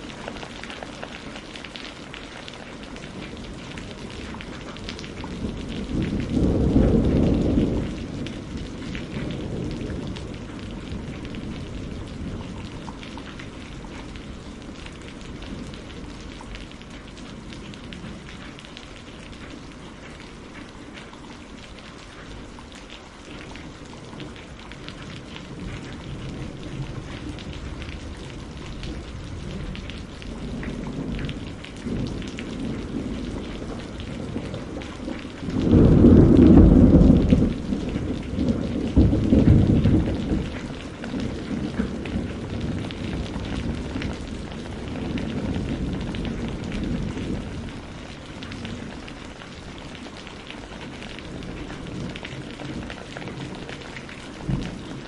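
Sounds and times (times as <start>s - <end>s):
rain pattering: 0.0s - 55.0s
thunder rumbling: 2.6s - 20.6s, 23.7s - 55.0s.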